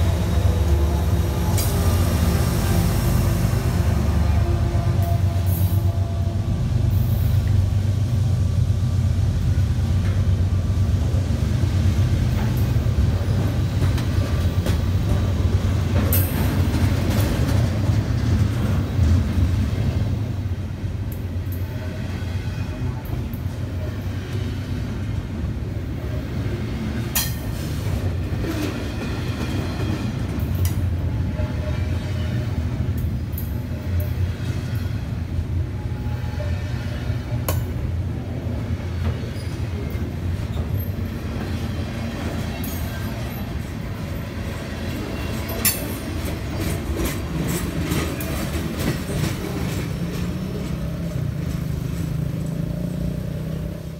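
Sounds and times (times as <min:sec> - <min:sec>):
freight train wheels rumbling on rail: 0:00.0 - 0:53.9.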